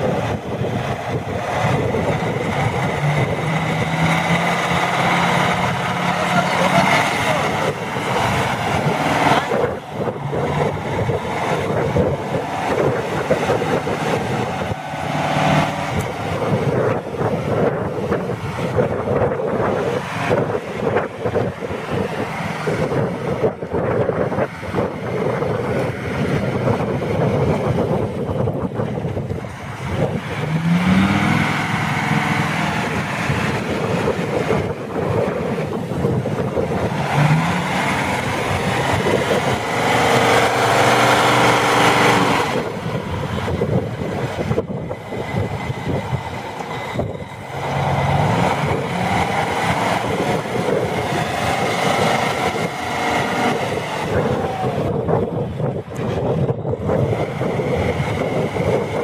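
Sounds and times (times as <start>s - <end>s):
truck diesel engine revving: 0.0s - 59.0s.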